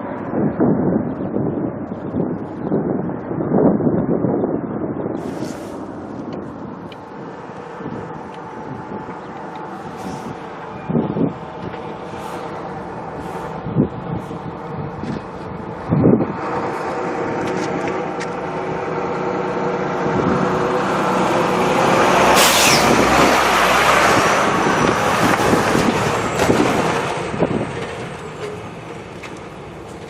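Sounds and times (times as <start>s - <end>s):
high turbine whine: 0.0s - 30.0s
jet airliner engine roar: 0.0s - 30.0s.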